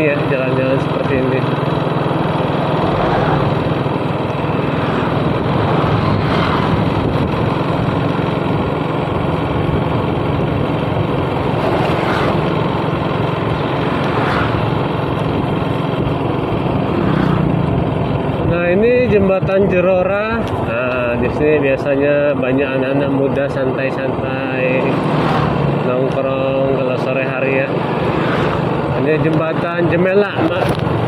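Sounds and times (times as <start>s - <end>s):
small motorcycle engine running: 0.0s - 31.0s
wind and road noise: 0.0s - 31.0s.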